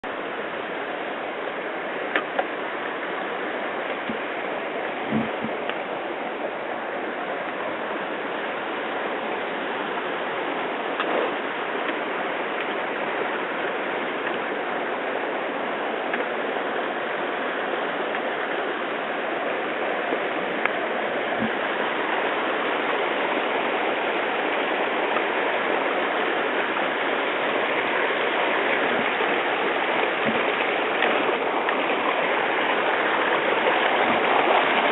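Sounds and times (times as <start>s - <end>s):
river rushing over stones: 0.0s - 34.9s.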